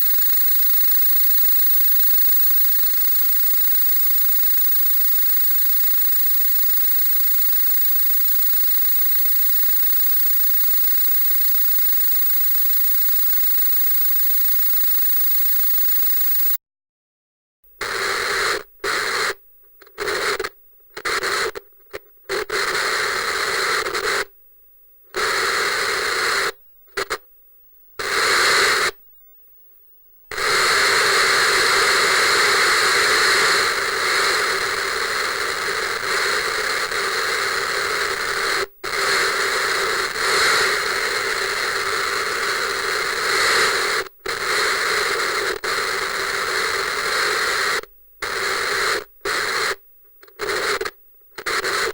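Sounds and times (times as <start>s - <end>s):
television static hiss: 0.0s - 16.6s, 17.8s - 24.4s, 27.9s - 51.9s.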